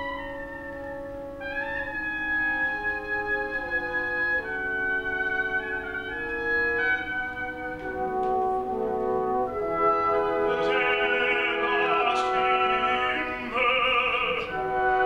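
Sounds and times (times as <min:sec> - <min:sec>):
orchestra playing: 0:00.0 - 0:15.0
operatic tenor singing: 0:02.0 - 0:15.0.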